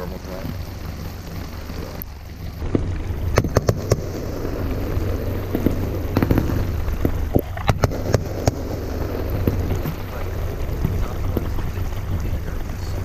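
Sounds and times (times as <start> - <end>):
fireworks popping and crackling: 0.0 - 13.0
low rumble: 0.0 - 13.0.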